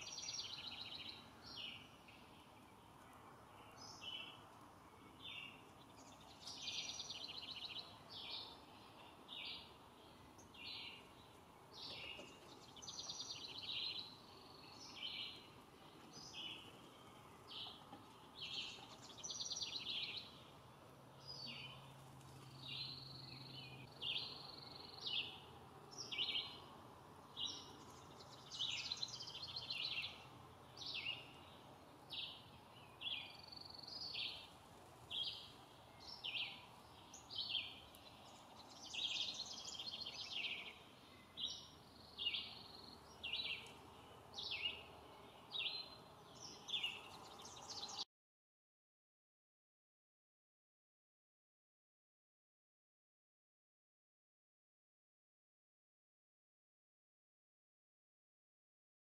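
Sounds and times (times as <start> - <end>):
faint background noise: 0.0 - 48.0
songbirds singing and calling: 0.0 - 48.1.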